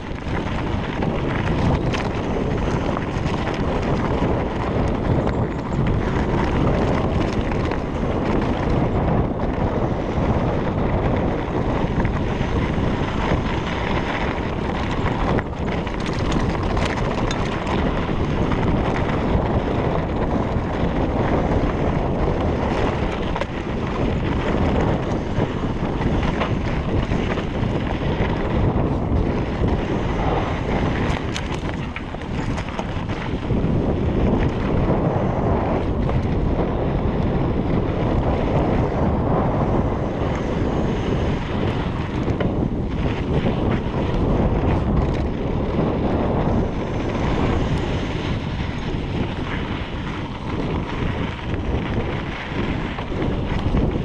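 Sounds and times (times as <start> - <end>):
bike tyres rumbling over dirt: 0.0 - 54.0
wind rushing over microphone: 0.0 - 54.0.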